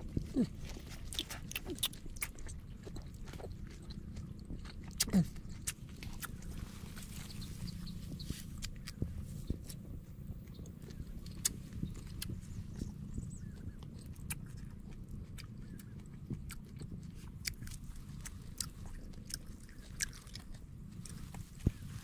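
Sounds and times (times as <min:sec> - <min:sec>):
low steady rumble: 0:00.0 - 0:22.0
person chewing food: 0:00.0 - 0:22.0.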